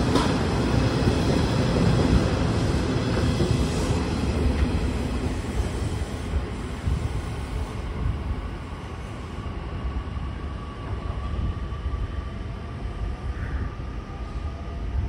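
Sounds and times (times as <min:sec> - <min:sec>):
train wheels rumbling: 0:00.0 - 0:12.2.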